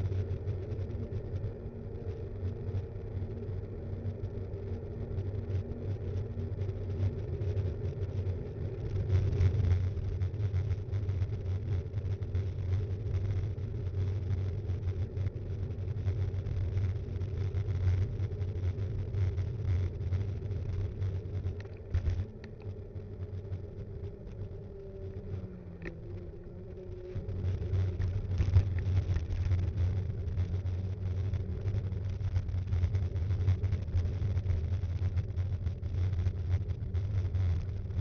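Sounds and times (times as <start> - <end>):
bike tyres rumbling: 7.4 - 38.0.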